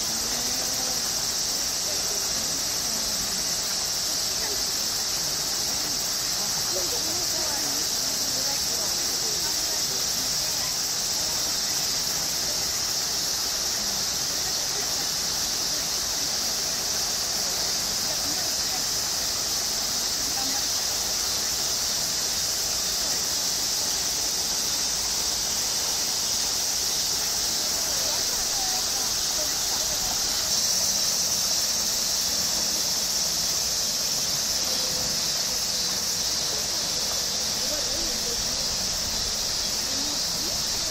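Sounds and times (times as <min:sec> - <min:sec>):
cicadas chorus: 0:00.0 - 0:40.9.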